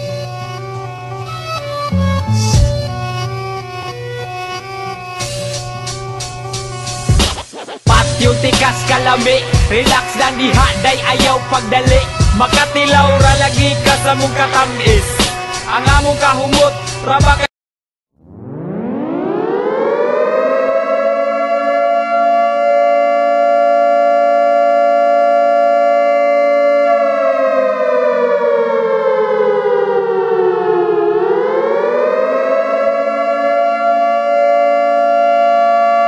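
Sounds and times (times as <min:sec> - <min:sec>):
civil defense siren wailing: 0:00.0 - 0:07.1, 0:07.9 - 0:17.2, 0:18.2 - 0:36.0.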